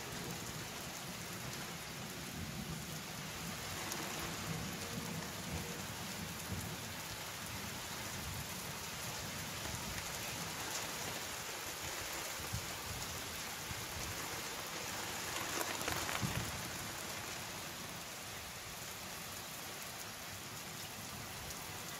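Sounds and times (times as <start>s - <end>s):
rain falling steadily: 0.0s - 21.9s.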